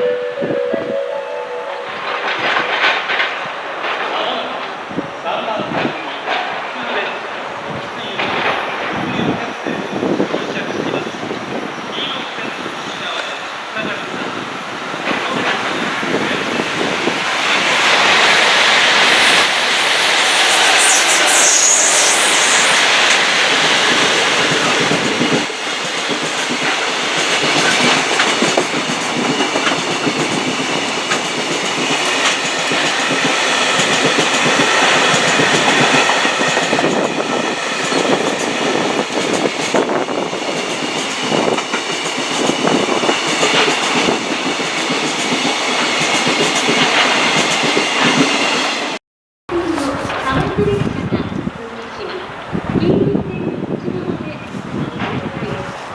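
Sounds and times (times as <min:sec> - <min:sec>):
freight train rumbling: 0:00.0 - 0:55.9.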